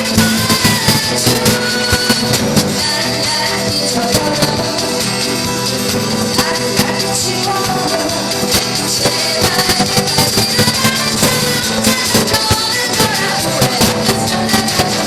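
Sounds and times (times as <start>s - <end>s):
instrumental accompaniment with beat: 0.0s - 15.0s
person singing: 0.0s - 15.0s.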